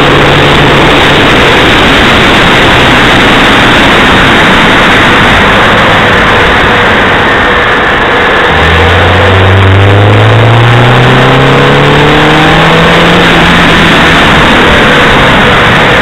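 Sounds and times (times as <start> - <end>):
car engine pulling: 0.0 - 16.0
road and wind noise: 0.0 - 16.0.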